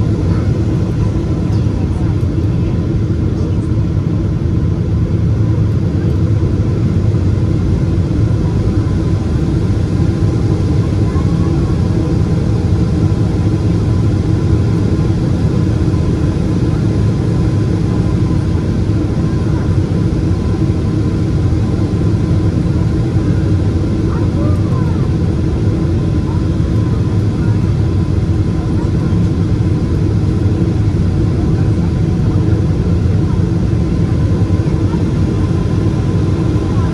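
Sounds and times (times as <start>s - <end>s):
airliner engine rumble: 0.0s - 36.9s.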